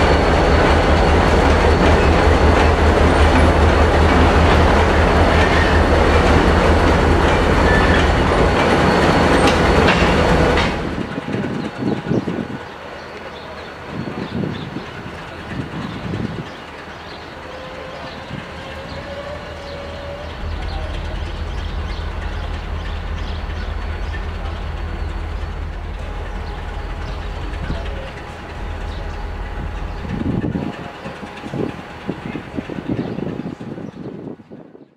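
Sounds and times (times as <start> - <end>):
diesel locomotive engine drone: 0.0 - 34.4
train wheels on rails: 0.0 - 34.7.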